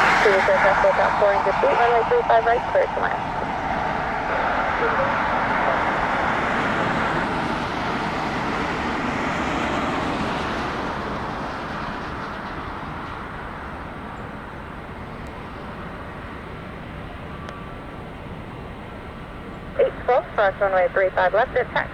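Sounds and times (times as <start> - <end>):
jet airliner engine rush: 0.0 - 21.9.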